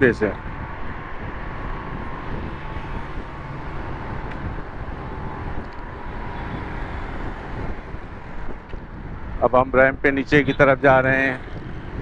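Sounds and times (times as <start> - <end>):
traffic noise: 0.0 - 12.0
wind rushing: 0.0 - 12.0.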